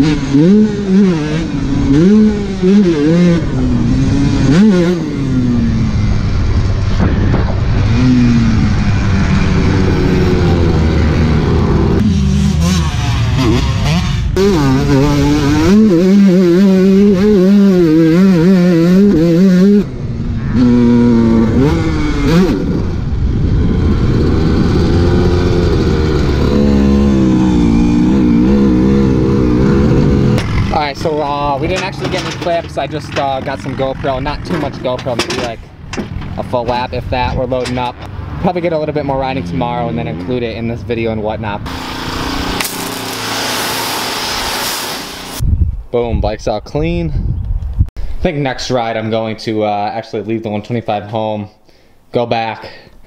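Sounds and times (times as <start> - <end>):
dirt bike engine revving: 0.0 - 45.4.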